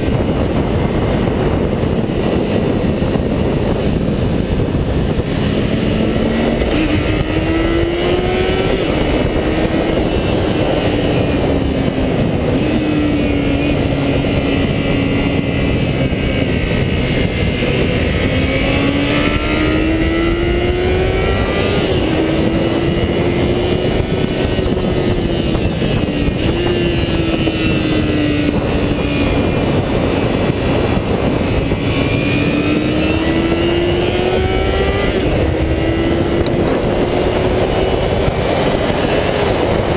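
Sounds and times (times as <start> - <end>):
motorcycle engine at high revs: 0.0 - 39.9
wind and road noise: 0.0 - 39.9.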